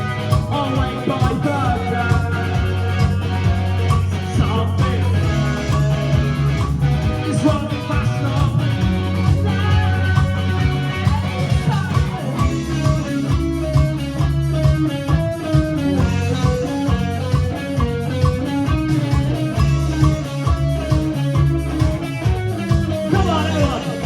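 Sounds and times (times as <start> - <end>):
bass: 0.0 - 24.0
electric guitar picking: 0.0 - 24.0
steady drum beat: 0.0 - 24.0.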